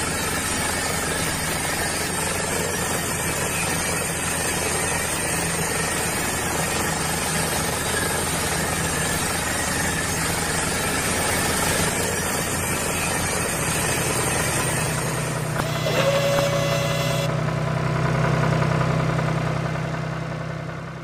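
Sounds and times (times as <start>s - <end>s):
digging wheel grinding soil and gravel: 0.0s - 17.3s
small toy motor running: 0.0s - 17.3s.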